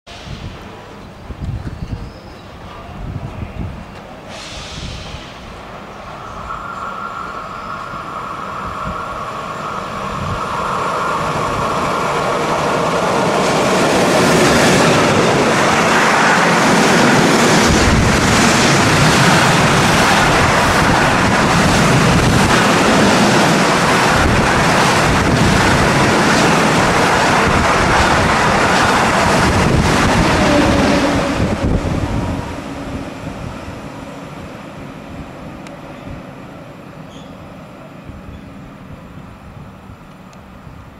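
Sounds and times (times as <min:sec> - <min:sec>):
freight train passing: 0:00.1 - 0:40.9.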